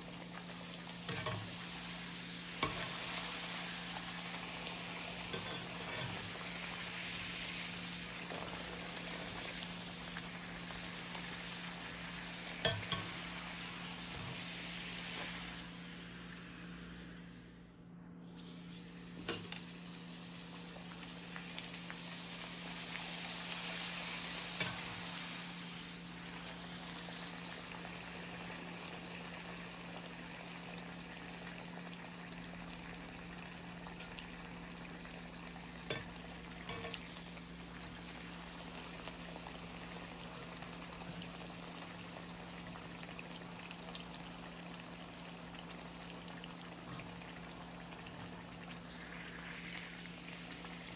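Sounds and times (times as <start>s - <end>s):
food sizzling in a frying pan: 0.0s - 17.6s, 18.4s - 50.9s.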